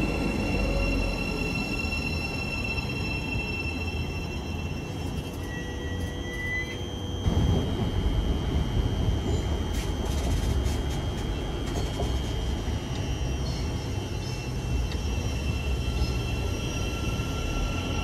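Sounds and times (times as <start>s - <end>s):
train rumbling past: 0.0s - 6.2s, 6.9s - 18.0s
lower whine: 0.0s - 18.0s.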